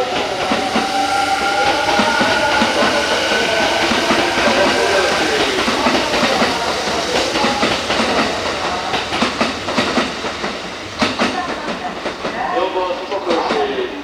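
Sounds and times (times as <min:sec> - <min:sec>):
train wheels clacking over rail joints: 0:00.0 - 0:13.9
train whine: 0:00.0 - 0:14.0.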